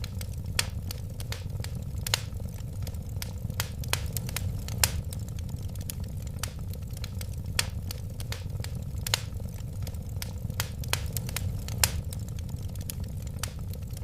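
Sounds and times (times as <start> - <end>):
fire low rumble: 0.0 - 14.0
wood fire crackling and popping: 0.0 - 14.0.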